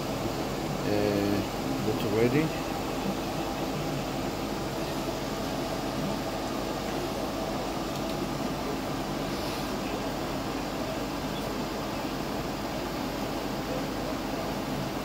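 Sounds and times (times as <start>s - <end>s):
laser machine fan and pump whirring: 0.0s - 15.0s.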